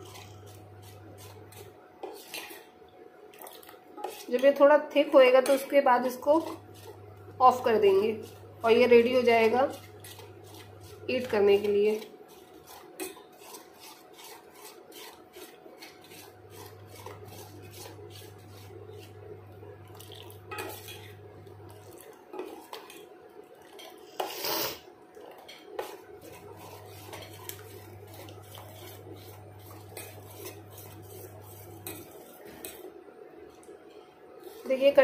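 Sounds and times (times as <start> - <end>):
metal spoon scraping a pot: 0.0 - 2.7, 3.4 - 19.2, 19.9 - 32.9.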